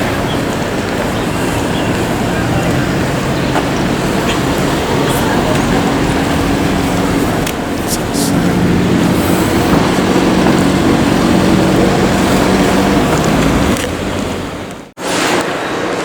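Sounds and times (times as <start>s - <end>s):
vehicle rumble with low drone: 0.0s - 15.0s.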